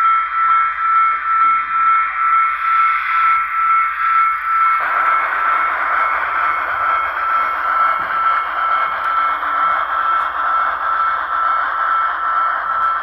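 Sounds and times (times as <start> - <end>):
model steam locomotive sounds: 0.0 - 13.0
steady high-pitched tone: 0.0 - 13.0.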